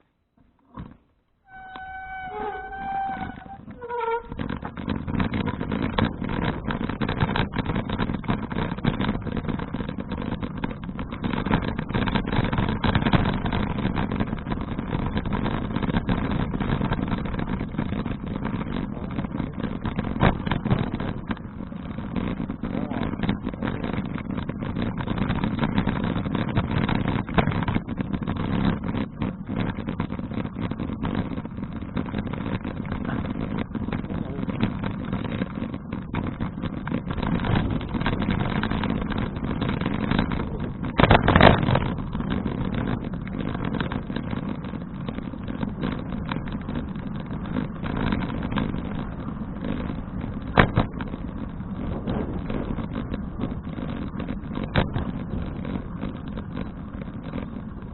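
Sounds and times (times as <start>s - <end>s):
bicycle rattling: 0.0s - 57.9s
bicycle jolt: 0.4s - 57.9s
wind and road rush: 1.8s - 57.9s.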